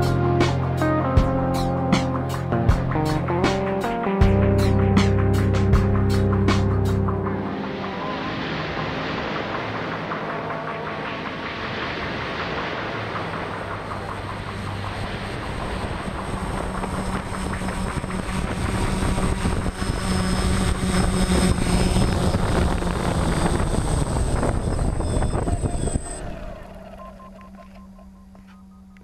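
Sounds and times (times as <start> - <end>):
drone propellers whirring: 0.0 - 29.0.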